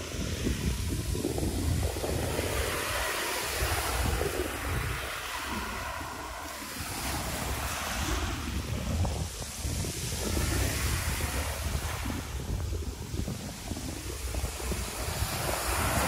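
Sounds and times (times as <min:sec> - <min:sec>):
waves washing over pebbles: 0:00.0 - 0:16.0
wind buffeting microphone: 0:00.0 - 0:16.0.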